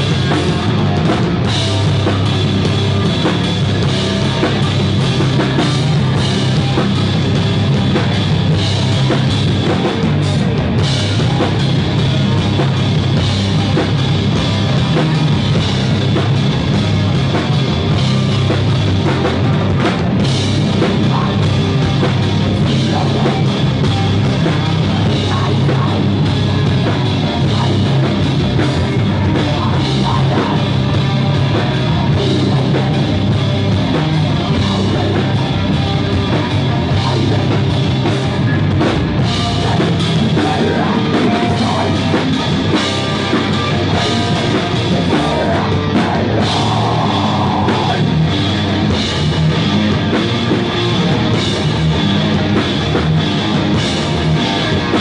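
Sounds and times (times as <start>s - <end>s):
distorted electric guitar: 0.0s - 55.0s
metal band playing: 0.0s - 55.0s.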